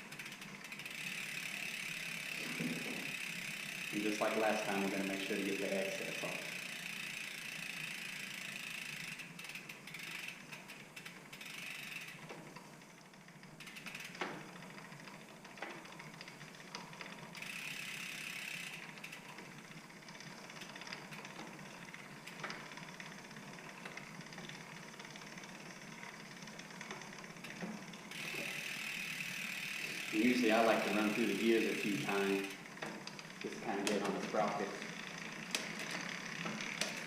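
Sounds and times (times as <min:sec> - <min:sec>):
bicycle chain running: 0:00.0 - 0:37.0
freewheel ratchet clicking: 0:00.0 - 0:37.0.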